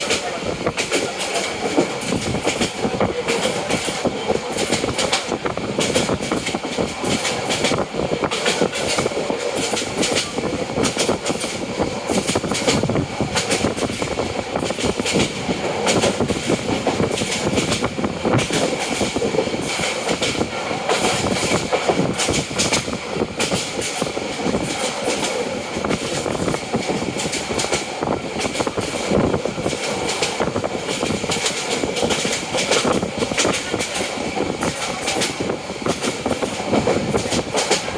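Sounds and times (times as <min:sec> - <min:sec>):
train rumbling on track: 0:00.0 - 0:37.9
wheels clattering on rails: 0:00.0 - 0:37.9.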